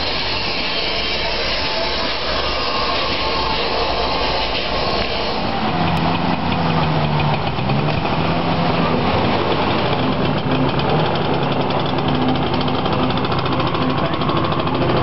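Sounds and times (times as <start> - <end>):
car engine driving past: 2.0 - 15.0.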